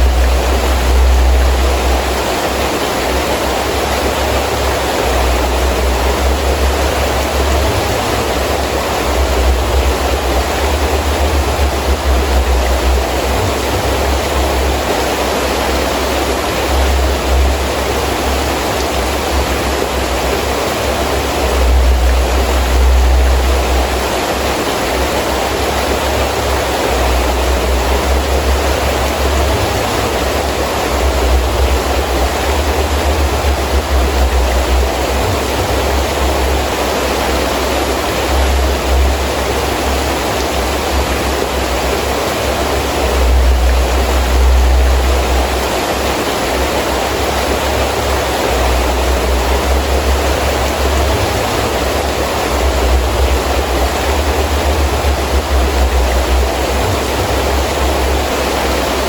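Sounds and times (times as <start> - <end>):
gusting wind rumble: 0.0 - 59.0
heavy rain falling: 0.0 - 59.0.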